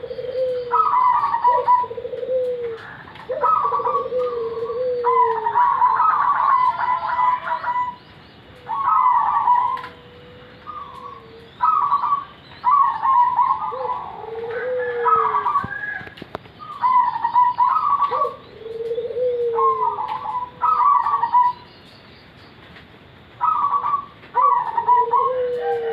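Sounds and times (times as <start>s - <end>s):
doves cooing: 0.0s - 21.7s, 23.4s - 25.9s.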